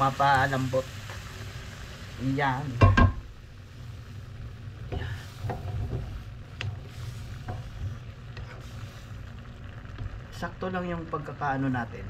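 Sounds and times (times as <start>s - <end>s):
low steady rumble: 0.0s - 12.0s
sauce simmering in a frying pan: 0.0s - 12.0s.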